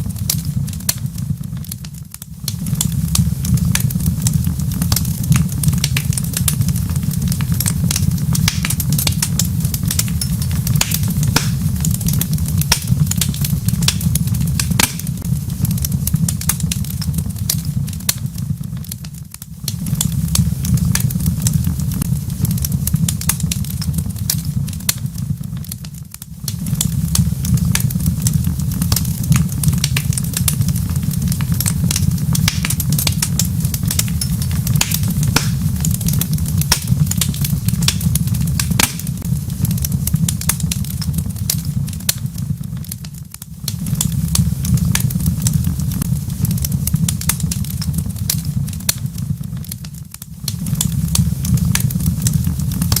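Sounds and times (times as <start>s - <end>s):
low rumble: 0.0s - 25.7s, 26.3s - 49.6s
wood fire crackling and popping: 0.0s - 53.0s.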